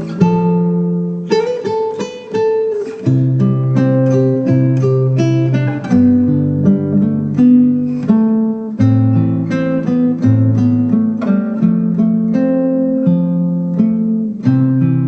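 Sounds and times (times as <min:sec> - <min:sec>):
acoustic guitar picked melody: 0:00.0 - 0:15.0.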